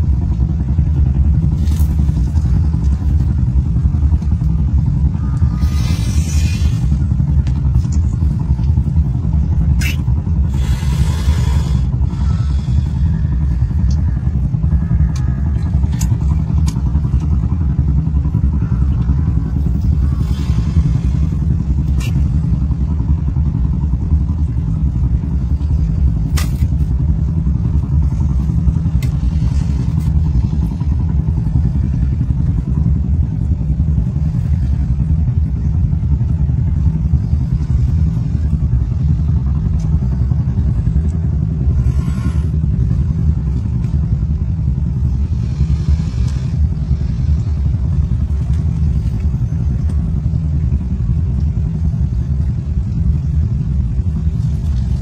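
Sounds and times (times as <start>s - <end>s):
loud low rumble: 0.0s - 55.0s.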